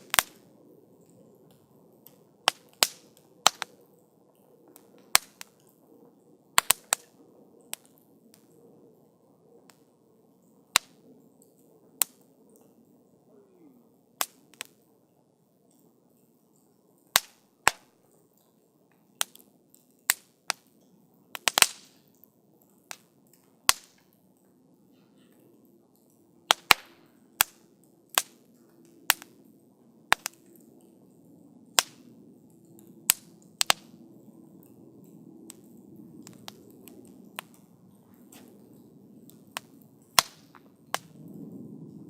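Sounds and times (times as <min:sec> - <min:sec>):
campfire crackling and popping: 0:00.0 - 0:42.0
faint hiss of flames: 0:00.0 - 0:42.0.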